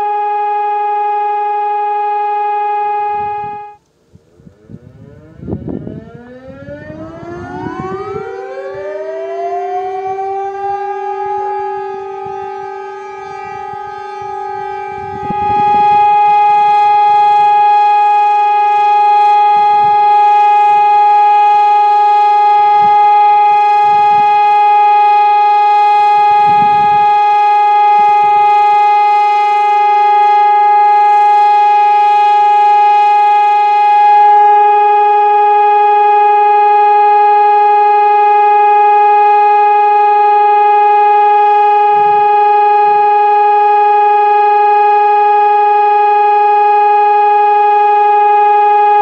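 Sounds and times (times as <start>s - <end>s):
civil defence sirens winding up: 0.0s - 49.0s
steady siren tone: 0.0s - 49.0s.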